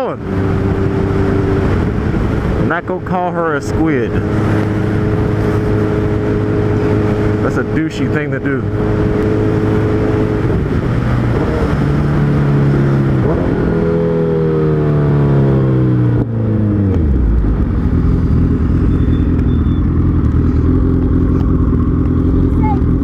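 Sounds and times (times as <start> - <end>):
motorcycle engine accelerating: 0.0 - 23.0
road rumble: 0.0 - 23.0
wind noise: 0.0 - 23.0.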